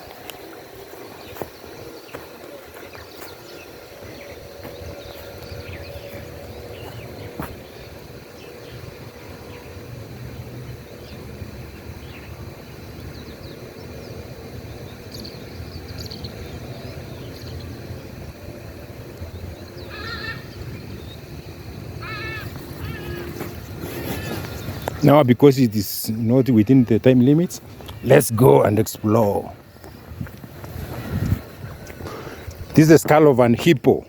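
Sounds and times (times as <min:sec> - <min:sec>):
steady low rumble: 0:00.0 - 0:32.9.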